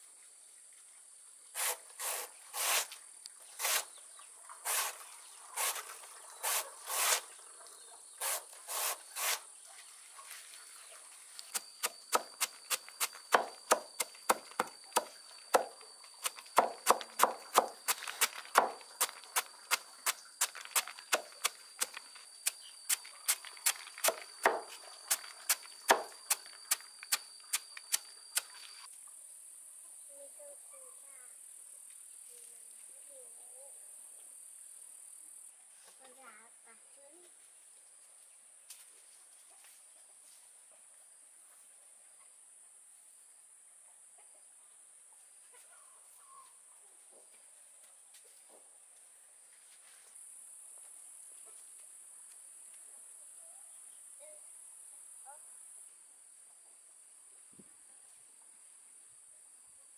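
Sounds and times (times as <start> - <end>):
crickets chirping: 0.0 - 38.6, 48.5 - 59.9.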